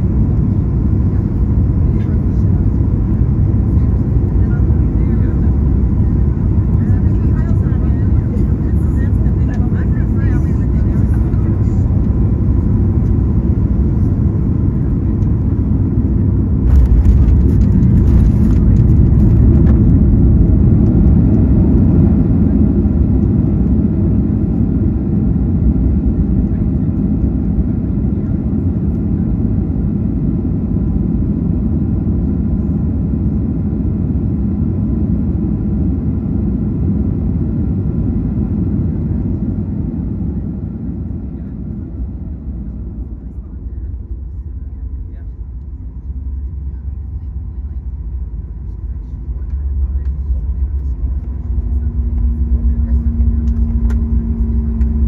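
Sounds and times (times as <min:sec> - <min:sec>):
jet engine and airflow rumble: 0:00.0 - 0:55.0.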